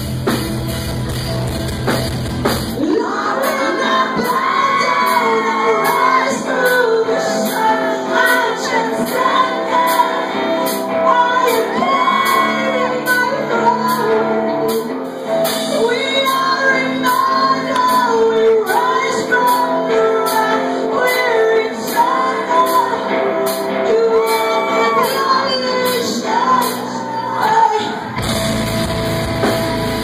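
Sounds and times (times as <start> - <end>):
metal band playing loudly: 0.0 - 30.0
woman singing: 2.8 - 28.3.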